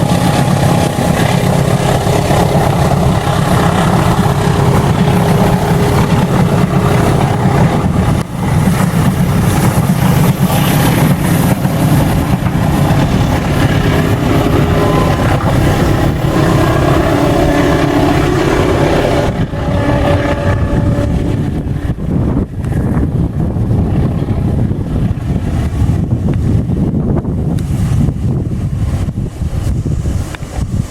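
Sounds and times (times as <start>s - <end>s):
diesel locomotive engine rumbling: 0.0s - 30.9s.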